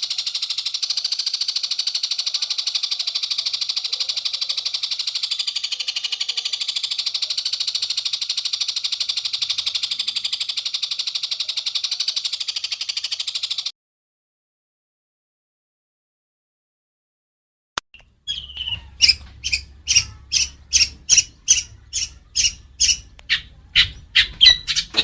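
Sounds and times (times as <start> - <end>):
high-pitched bird trill: 0.0 - 13.7, 18.0 - 25.0.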